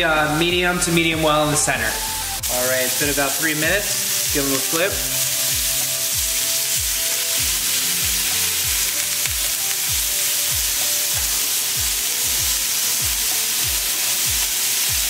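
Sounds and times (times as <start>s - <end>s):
music with kick-drum beat: 0.0s - 15.0s
patties sizzling on griddle: 0.0s - 15.0s.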